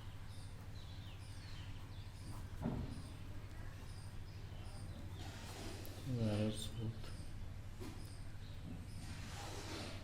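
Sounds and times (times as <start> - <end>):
small birds chirping: 0.0 - 10.0
steady low hum: 0.0 - 10.0.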